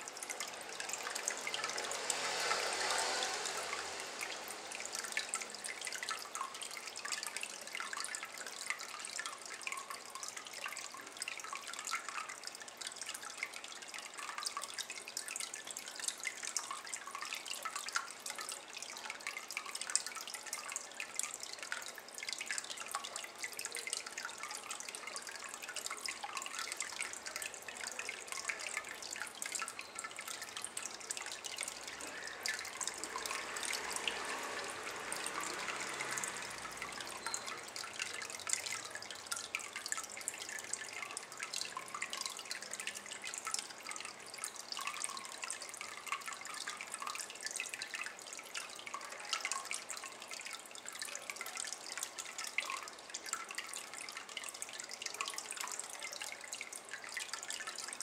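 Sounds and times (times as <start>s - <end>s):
water trickling into basin: 0.0s - 58.0s.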